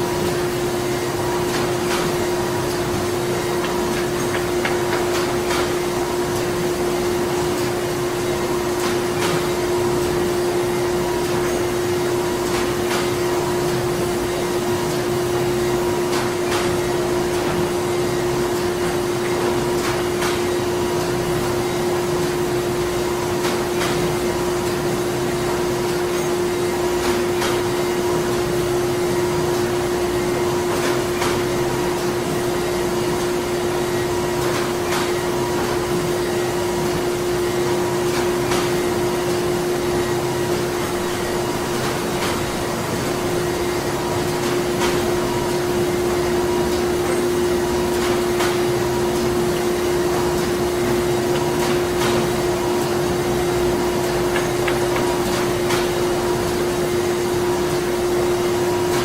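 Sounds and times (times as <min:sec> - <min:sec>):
industrial machinery hum: 0:00.0 - 0:59.0.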